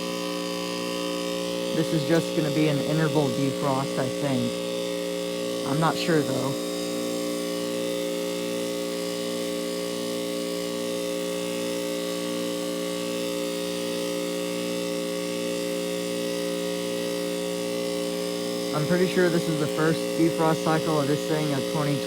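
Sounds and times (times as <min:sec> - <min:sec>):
heat pump humming drone: 0:00.0 - 0:22.0.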